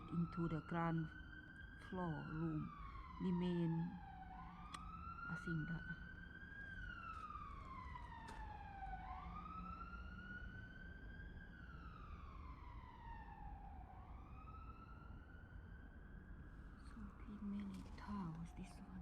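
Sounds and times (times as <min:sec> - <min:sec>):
emergency siren wailing: 0:00.0 - 0:19.0.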